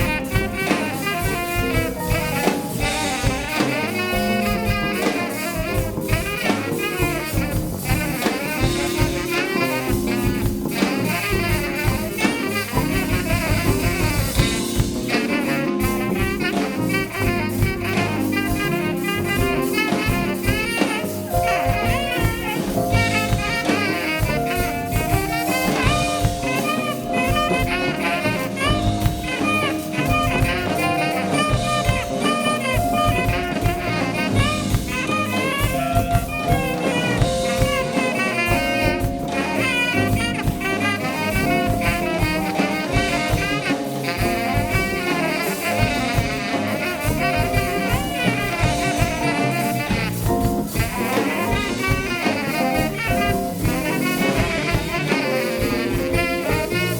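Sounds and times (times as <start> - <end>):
drum kit: 0.0 - 56.9
saxophone playing: 0.0 - 56.9.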